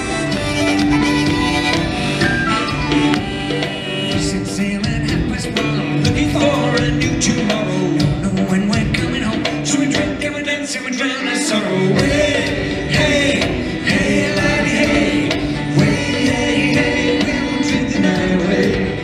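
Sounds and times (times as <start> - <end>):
rock band playing: 0.0 - 19.0
man singing: 3.2 - 19.0.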